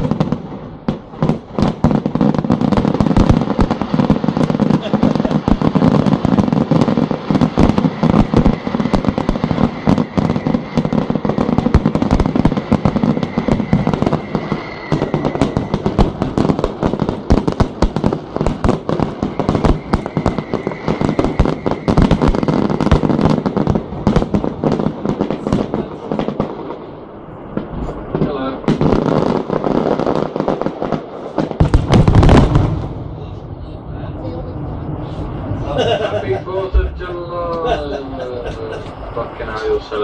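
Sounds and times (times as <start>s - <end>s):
fireworks bursting: 0.0s - 33.6s, 36.4s - 40.0s.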